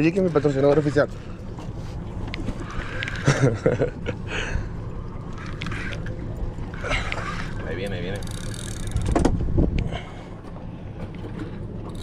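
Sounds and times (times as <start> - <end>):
boat motor running: 0.0 - 12.0
water noise: 0.0 - 12.0
wind: 0.0 - 12.0.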